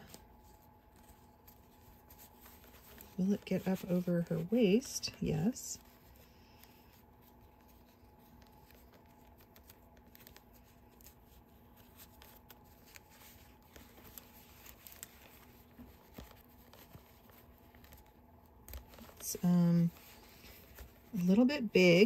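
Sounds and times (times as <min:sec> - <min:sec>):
cloth rustling: 0:00.0 - 0:22.0
faint steady hum: 0:00.0 - 0:22.0.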